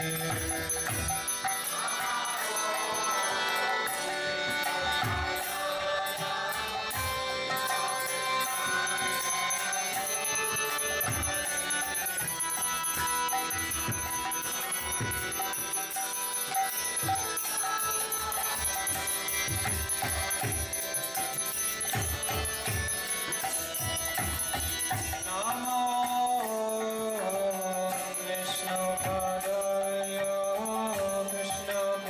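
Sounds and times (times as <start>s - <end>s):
devotional music held tones: 0.0s - 32.0s
metal percussion jingling: 0.0s - 32.0s.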